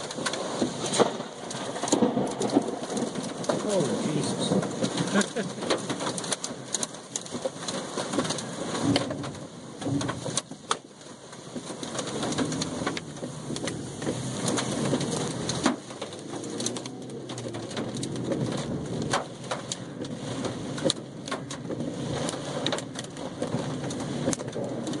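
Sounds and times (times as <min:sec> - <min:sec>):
hail pelting car roof: 0:00.0 - 0:25.0
rushing wind and rain: 0:00.0 - 0:25.0.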